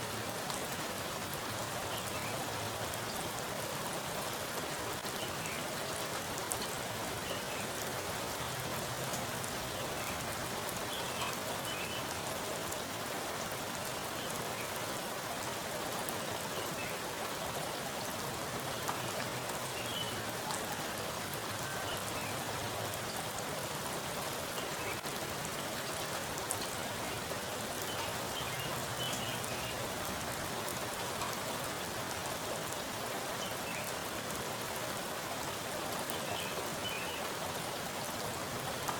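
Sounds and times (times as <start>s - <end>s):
heavy rain on water: 0.0s - 38.9s.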